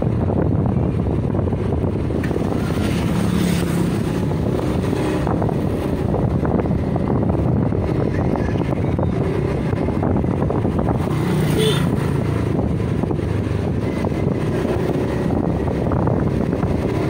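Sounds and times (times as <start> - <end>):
wind buffeting microphone: 0.0 - 17.0
vehicle passing: 2.2 - 17.0.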